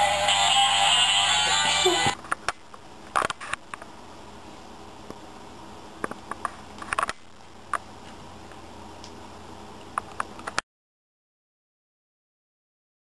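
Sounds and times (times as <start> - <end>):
faint background hum: 0.0 - 10.6.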